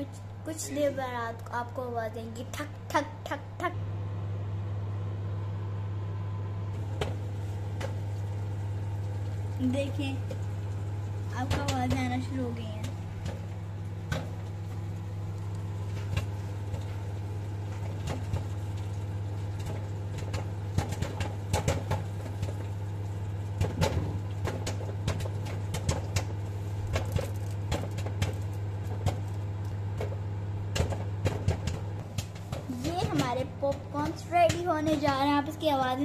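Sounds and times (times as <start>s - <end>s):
microwave oven humming: 0.0s - 36.0s
popcorn popping: 6.7s - 36.0s.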